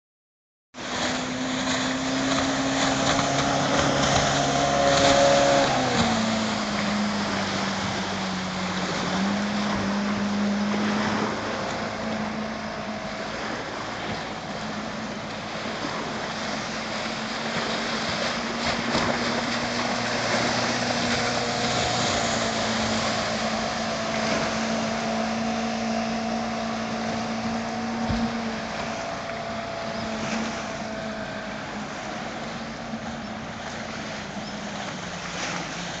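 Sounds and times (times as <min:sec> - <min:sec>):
outboard motor droning: 0:00.8 - 0:36.0.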